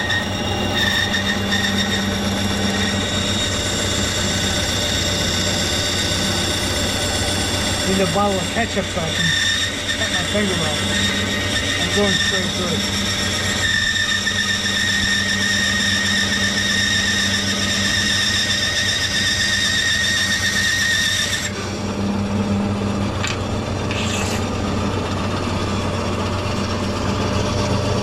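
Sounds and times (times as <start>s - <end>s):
bandsaw blade whine: 0.0s - 28.0s
saw motor hum: 0.0s - 28.0s.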